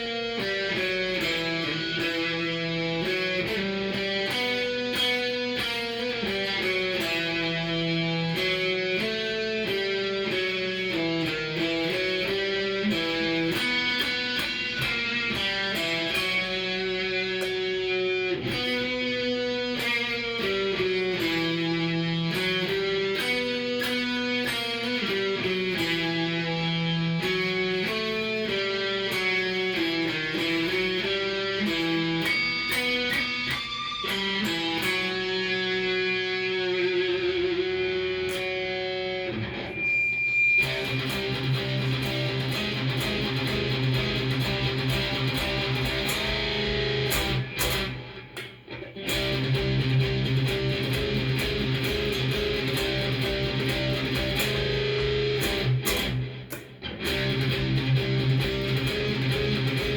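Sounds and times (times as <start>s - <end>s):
electric guitar playing: 0.0s - 59.9s.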